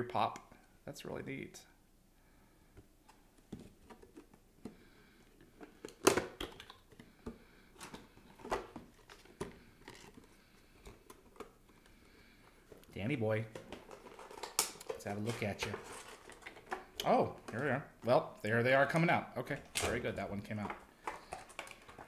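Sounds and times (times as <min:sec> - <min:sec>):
plastic and cardboard rustling: 0:03.0 - 0:18.2, 0:18.8 - 0:22.0.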